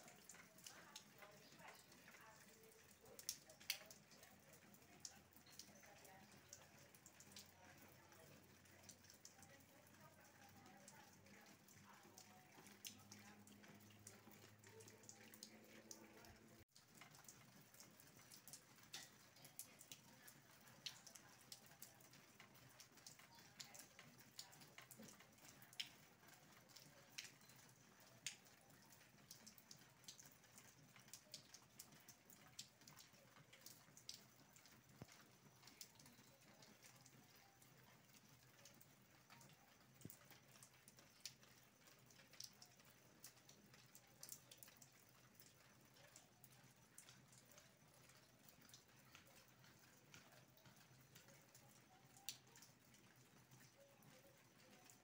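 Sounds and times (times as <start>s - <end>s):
rain drops ticking: 0.0s - 55.0s
soft steady rain hiss: 0.0s - 55.0s.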